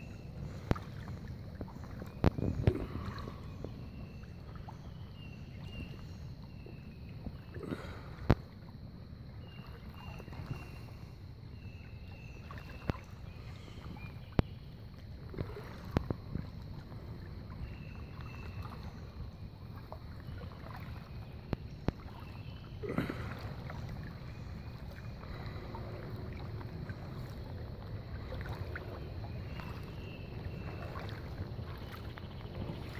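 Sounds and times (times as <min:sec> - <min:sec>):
river water lapping around legs: 0:00.0 - 0:32.9.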